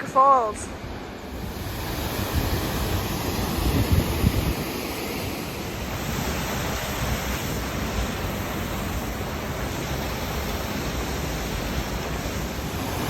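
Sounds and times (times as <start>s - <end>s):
waterfall and river rushing: 0.0s - 13.0s
wind buffeting microphone: 1.2s - 13.0s.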